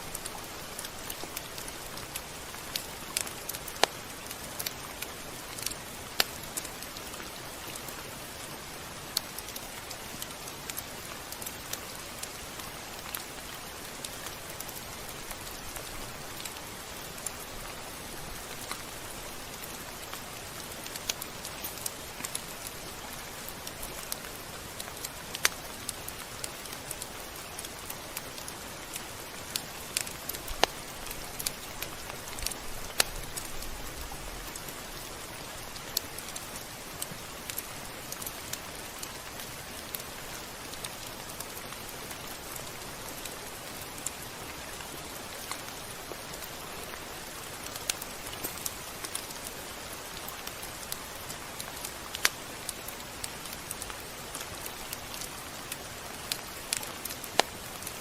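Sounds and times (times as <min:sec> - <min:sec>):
raindrop ticks: 0:00.0 - 0:58.0
steady rain: 0:00.0 - 0:58.0.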